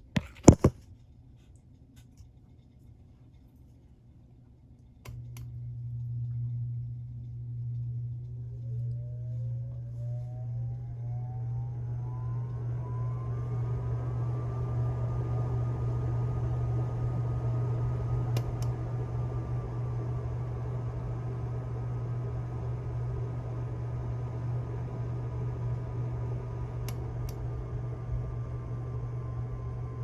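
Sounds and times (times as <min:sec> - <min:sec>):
ceiling fan motor hum: 0:00.0 - 0:30.0.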